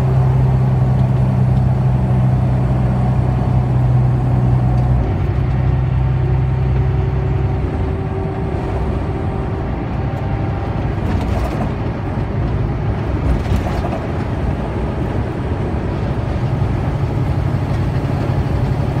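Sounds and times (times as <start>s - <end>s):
road noise: 0.0s - 19.0s
truck engine drone in cab: 0.0s - 19.0s.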